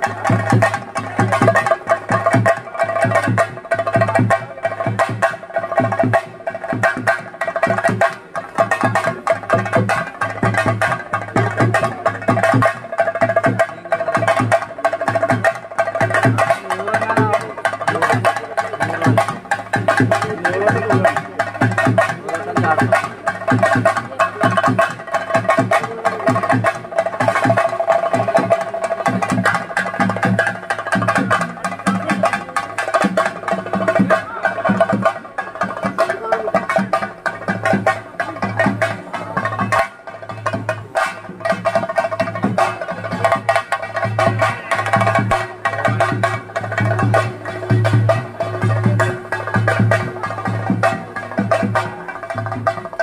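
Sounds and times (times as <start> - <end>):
drums beaten in fast rhythm: 0.0 - 53.0.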